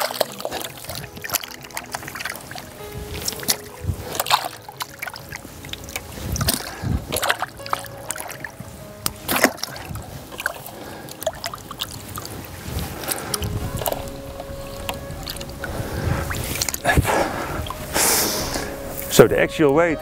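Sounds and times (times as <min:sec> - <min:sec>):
fish splashing in water: 0:00.0 - 0:19.1.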